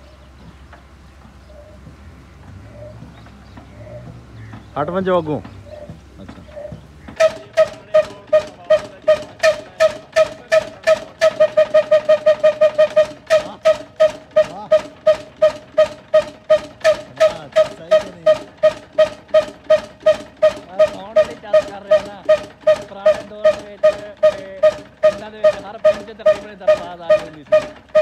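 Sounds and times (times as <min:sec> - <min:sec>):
single-cylinder diesel engine popping: 0:00.0 - 0:28.0.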